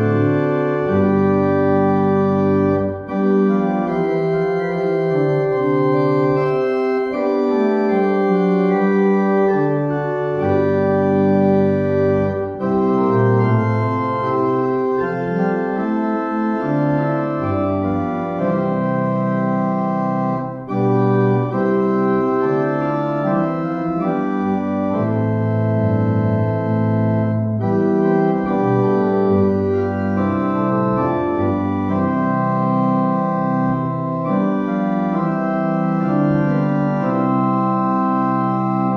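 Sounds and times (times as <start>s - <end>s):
church organ playing chords: 0.0s - 38.9s.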